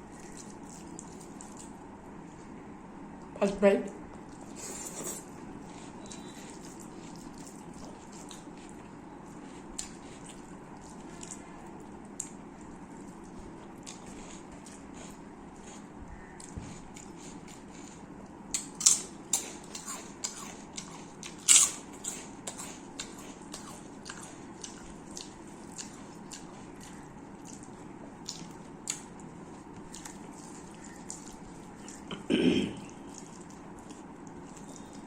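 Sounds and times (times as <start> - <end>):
close chewing: 0.0 - 2.0, 4.1 - 35.0.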